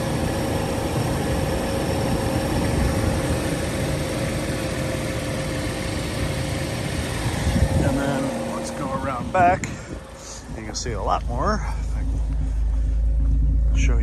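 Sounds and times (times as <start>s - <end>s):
car engine idling: 0.0s - 14.0s
steady engine whine: 0.0s - 14.0s.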